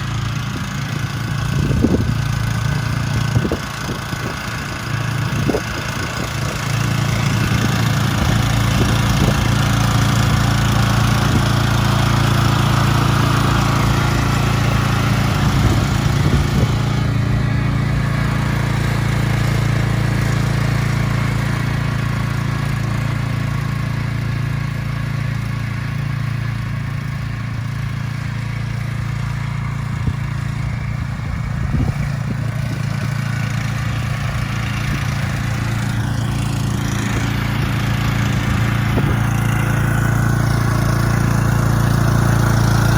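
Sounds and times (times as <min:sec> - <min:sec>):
riding lawn mower engine running: 0:00.0 - 0:42.9.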